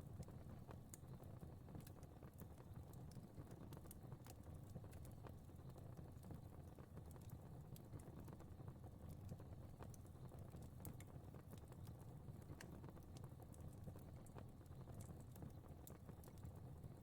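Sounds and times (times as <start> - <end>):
faint fire crackling: 0.0 - 17.0.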